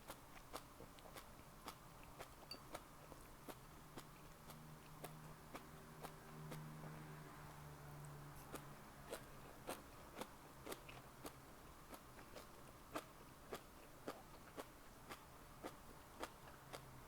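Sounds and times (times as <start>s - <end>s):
mouth clicks while chewing: 0.0s - 6.8s, 8.0s - 17.0s.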